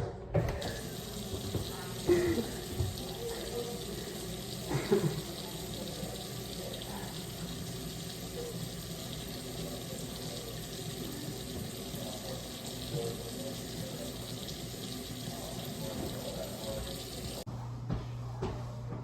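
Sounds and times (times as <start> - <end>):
tap water running into sink: 0.4 - 17.5.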